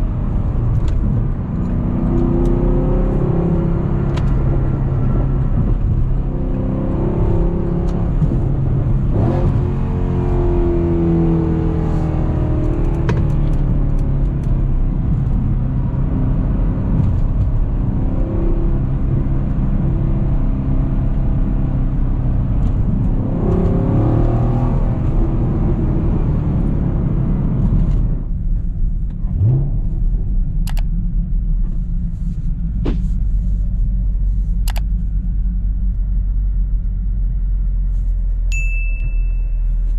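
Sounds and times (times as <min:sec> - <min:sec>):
car exhaust rumble while driving: 0:00.0 - 0:39.9.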